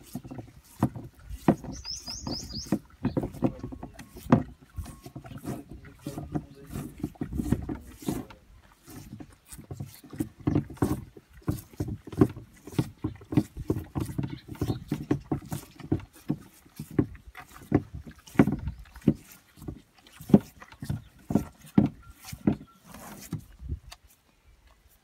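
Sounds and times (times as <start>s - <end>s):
cows licking salt: 0.0s - 25.0s.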